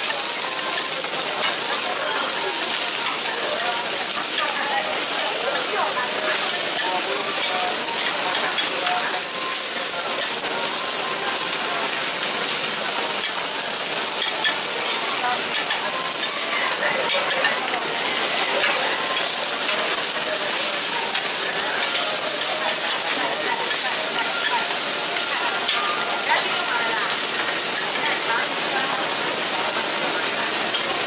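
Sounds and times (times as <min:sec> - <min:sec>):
omelettes sizzling on griddle: 0:00.0 - 0:31.0.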